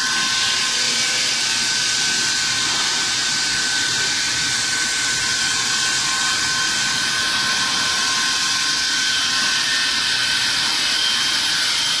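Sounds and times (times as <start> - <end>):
saw blade grinding stone: 0.0 - 12.0.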